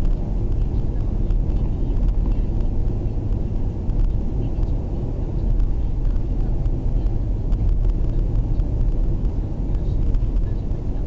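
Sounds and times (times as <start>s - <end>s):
car interior engine and tyre rumble: 0.0s - 11.0s.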